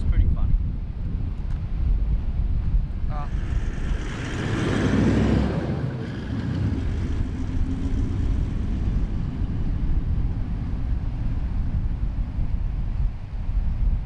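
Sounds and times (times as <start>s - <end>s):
wind buffeting microphone: 0.0s - 14.0s
diesel engine low rumble: 0.8s - 14.0s.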